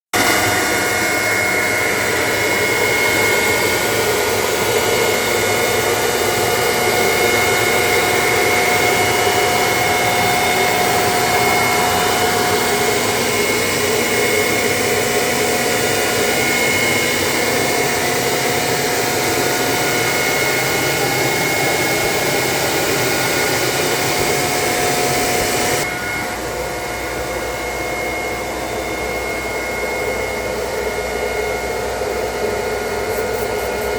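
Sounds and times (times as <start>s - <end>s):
faint whining tones: 0.2s - 33.9s.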